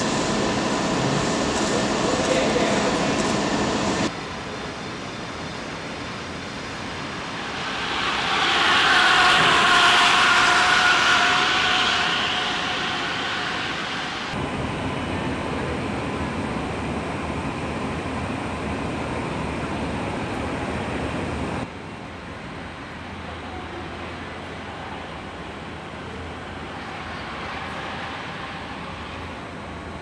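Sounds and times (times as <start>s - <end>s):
factory machinery noise: 0.0s - 30.0s.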